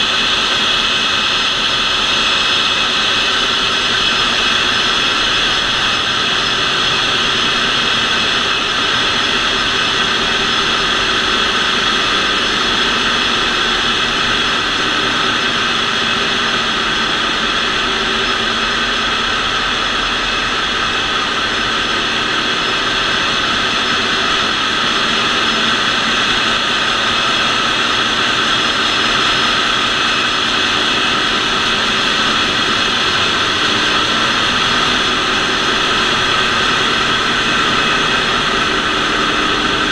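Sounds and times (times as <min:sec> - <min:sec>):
engine-room machinery din: 0:00.0 - 0:39.9
machinery whining tones: 0:00.0 - 0:39.9.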